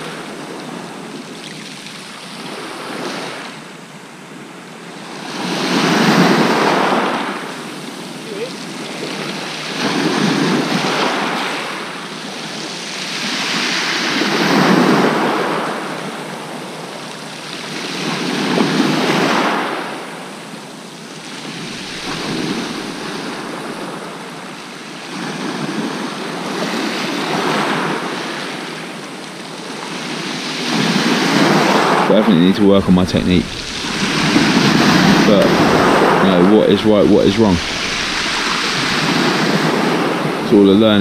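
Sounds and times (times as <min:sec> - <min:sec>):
waves washing over shingle: 0:05.0 - 0:20.3, 0:21.0 - 0:41.0.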